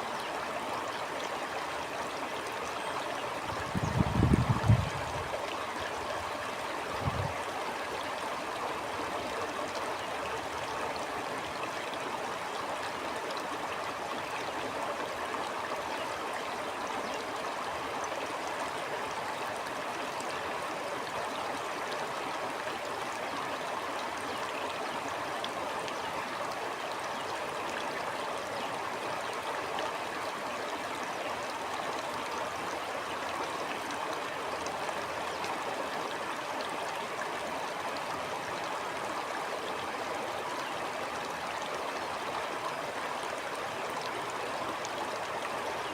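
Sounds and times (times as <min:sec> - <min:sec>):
stream flowing: 0:00.0 - 0:45.9.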